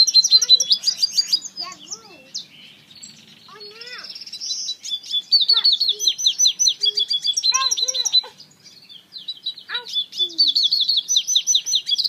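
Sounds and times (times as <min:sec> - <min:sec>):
finch singing: 0:00.0 - 0:12.0.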